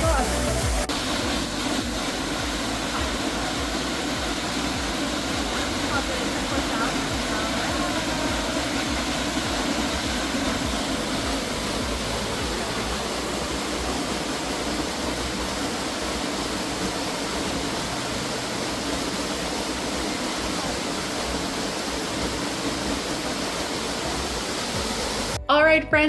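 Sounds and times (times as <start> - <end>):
rushing water: 0.0 - 25.4.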